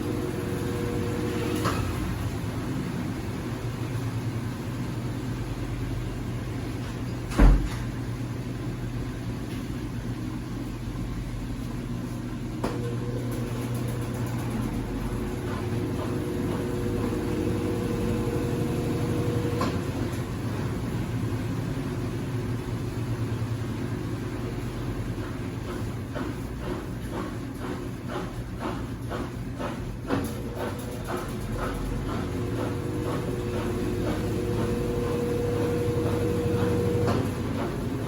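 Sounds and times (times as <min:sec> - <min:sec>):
washing machine humming: 0:00.0 - 0:38.0.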